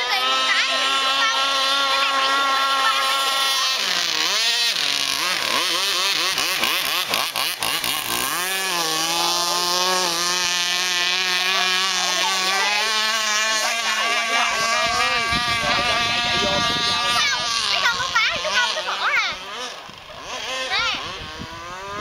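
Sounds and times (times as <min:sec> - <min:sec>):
model speedboat motor whine: 0:00.0 - 0:22.0.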